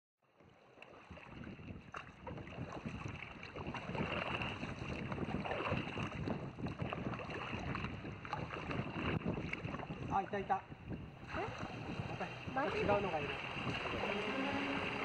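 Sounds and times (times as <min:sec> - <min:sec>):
paddle splashing in water: 0:00.3 - 0:15.0
wind noise on microphone: 0:00.9 - 0:15.0.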